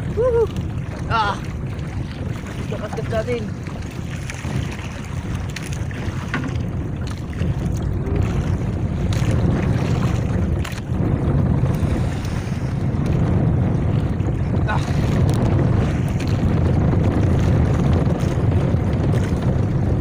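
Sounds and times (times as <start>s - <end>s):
wind and sea rumble: 0.0s - 20.0s
wind on microphone: 0.0s - 20.0s.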